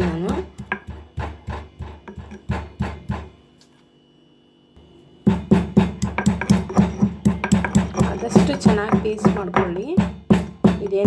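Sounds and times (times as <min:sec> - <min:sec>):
pestle pounding in stone mortar: 0:00.0 - 0:03.4, 0:05.2 - 0:11.0.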